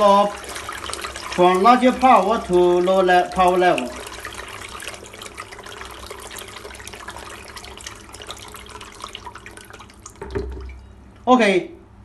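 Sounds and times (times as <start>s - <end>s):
water pouring and splashing: 0.0s - 10.8s.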